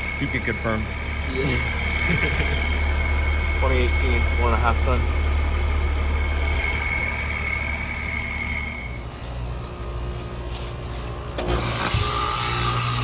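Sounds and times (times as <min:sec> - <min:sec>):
thin high whine: 0:00.0 - 0:12.9
heat pump low hum: 0:00.0 - 0:13.0
loud steady machine hum: 0:00.0 - 0:13.0.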